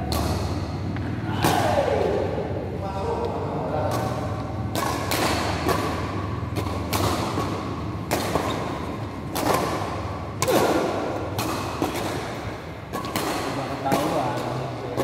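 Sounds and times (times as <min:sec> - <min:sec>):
rackets striking shuttlecock: 0:00.0 - 0:02.4, 0:03.8 - 0:15.0.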